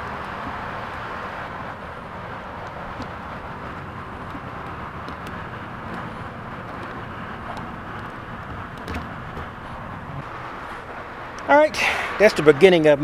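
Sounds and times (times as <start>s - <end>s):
outdoor hiss and rumble: 0.0s - 13.0s.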